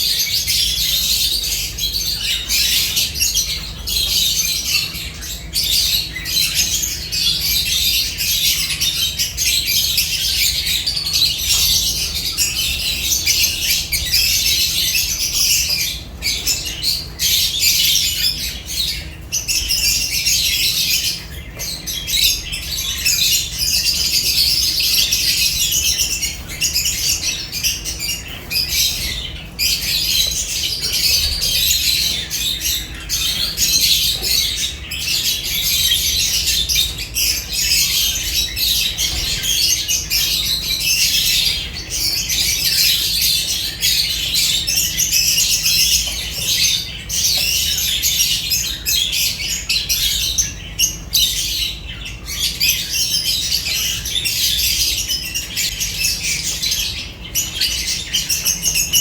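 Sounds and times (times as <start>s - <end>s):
birds chattering and squawking: 0.0s - 59.0s.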